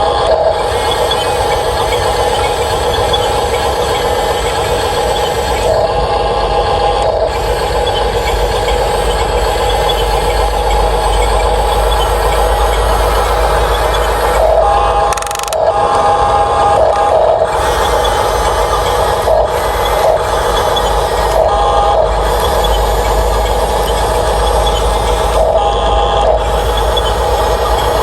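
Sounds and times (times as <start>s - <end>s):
electric motors humming and whining: 0.0s - 28.0s.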